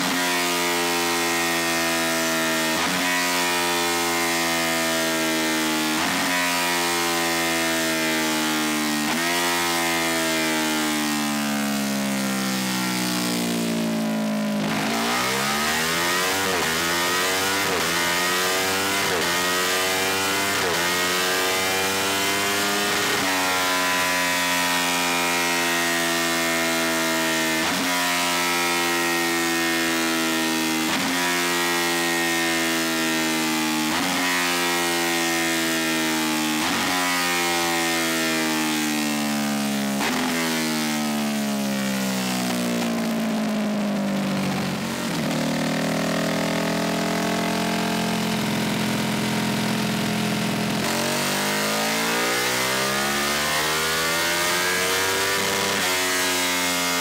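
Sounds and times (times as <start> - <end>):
motorcycle engine revving on dyno: 0.0 - 57.0.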